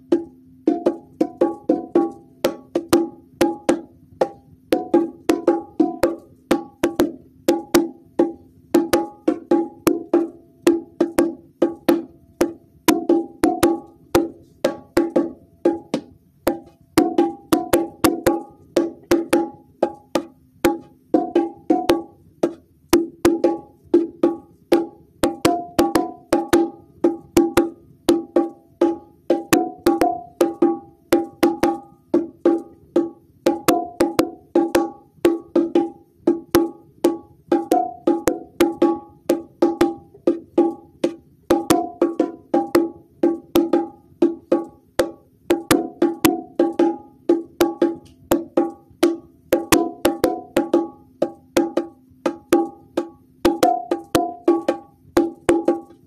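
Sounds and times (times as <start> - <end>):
bongo drums played by hand: 0.0 - 56.0.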